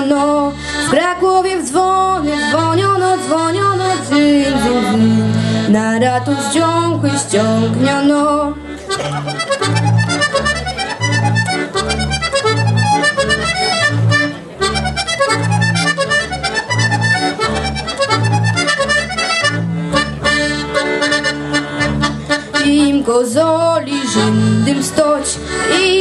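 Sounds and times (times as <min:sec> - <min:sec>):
accordion folk melody: 0:00.0 - 0:26.0
double bass notes: 0:00.0 - 0:26.0.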